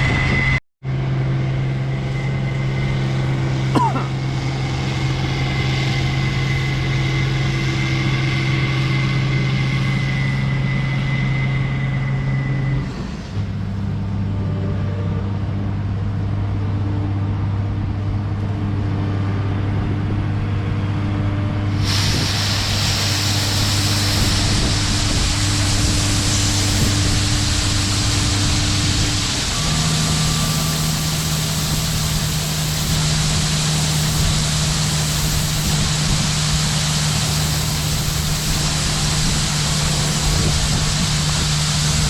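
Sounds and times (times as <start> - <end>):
loud rushing hiss: 0.0 - 14.3, 21.4 - 42.0
faint high whine: 0.0 - 15.9, 21.4 - 42.0
heavy vehicle engine running: 0.0 - 42.0.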